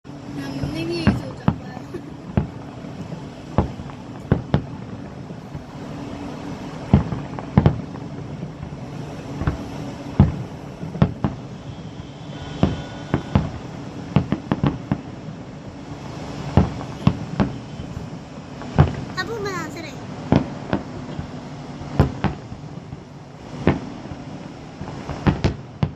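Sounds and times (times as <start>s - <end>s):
fireworks banging: 0.1s - 25.9s.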